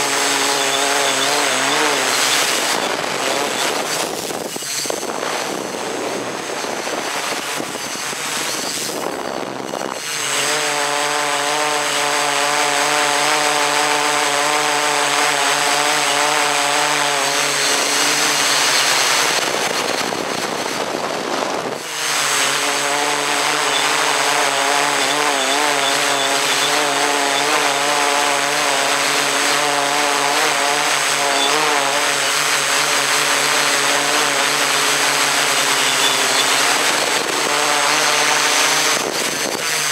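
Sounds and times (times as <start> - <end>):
drone motors and propellers: 0.0 - 39.9.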